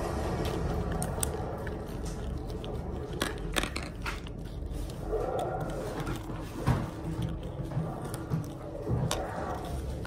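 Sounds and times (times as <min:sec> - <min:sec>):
toy clicks and crackles: 0:00.3 - 0:10.0.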